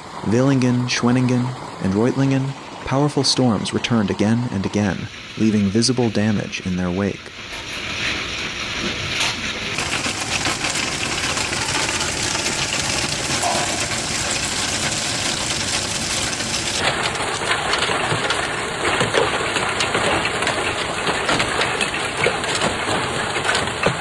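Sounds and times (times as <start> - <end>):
heavy storm rain pelting: 0.0 - 24.0.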